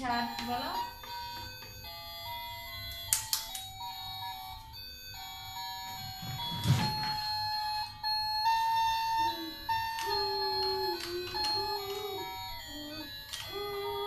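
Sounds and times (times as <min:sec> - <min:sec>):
electronic toy melody beeping: 0:00.0 - 0:14.0.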